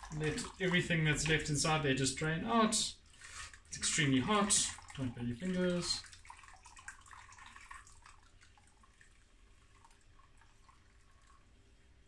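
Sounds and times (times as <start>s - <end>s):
liquid trickling and dripping: 0.0s - 12.0s.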